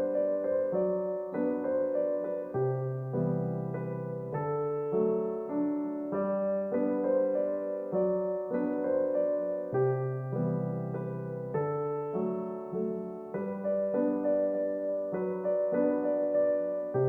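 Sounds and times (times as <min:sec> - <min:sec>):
gentle keyboard music: 0:00.0 - 0:17.0.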